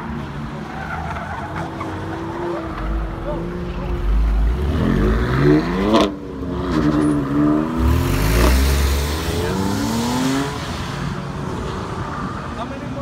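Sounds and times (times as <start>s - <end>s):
car engine revving: 1.8s - 12.6s.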